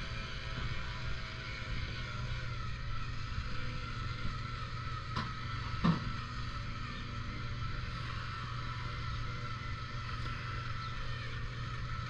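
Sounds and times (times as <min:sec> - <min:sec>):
diesel engine idling: 0:00.0 - 0:12.0
high whine: 0:00.0 - 0:12.0.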